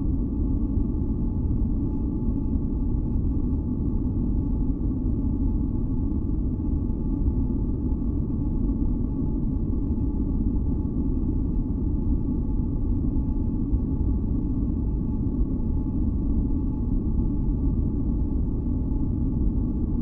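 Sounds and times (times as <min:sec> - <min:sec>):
faint humming tones: 0:00.0 - 0:20.0.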